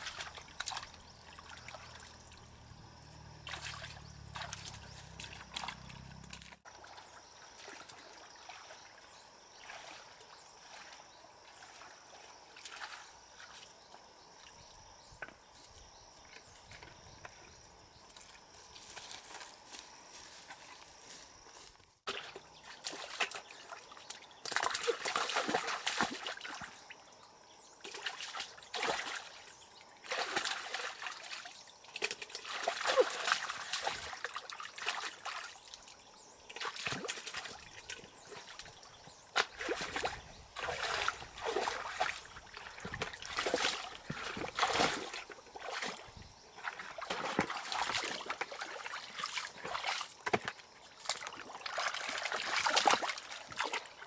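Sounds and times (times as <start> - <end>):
water splashing and trickling: 0.0 - 15.4, 22.1 - 54.0.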